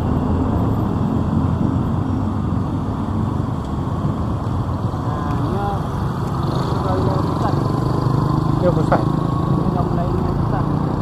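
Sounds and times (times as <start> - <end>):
motorbike engine hum: 0.0 - 11.0
wind and road noise: 0.0 - 11.0.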